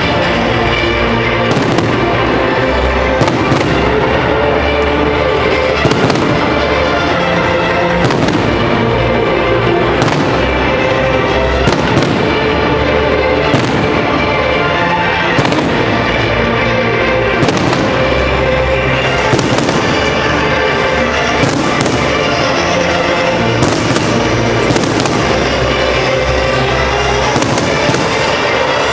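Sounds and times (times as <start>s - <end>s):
fireworks bangs: 0.0s - 4.6s, 5.4s - 28.9s
loud music: 0.0s - 28.9s.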